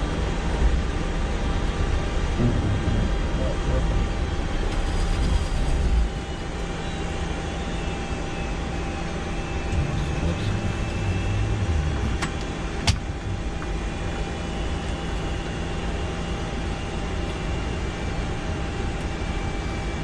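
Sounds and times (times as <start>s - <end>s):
faint steady whine: 0.0s - 20.0s
jet engines idling rumble and hiss: 0.0s - 20.0s.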